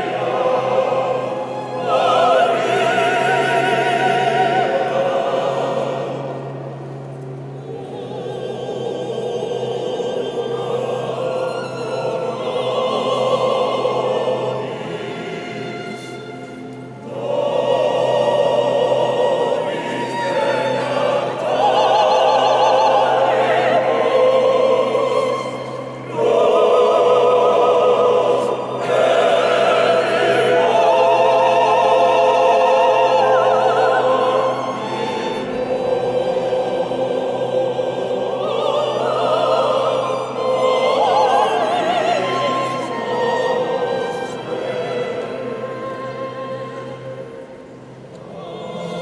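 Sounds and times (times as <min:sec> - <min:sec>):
male voice choir singing: 0:00.0 - 0:06.6, 0:07.6 - 0:16.3, 0:17.0 - 0:47.2, 0:48.2 - 0:49.0.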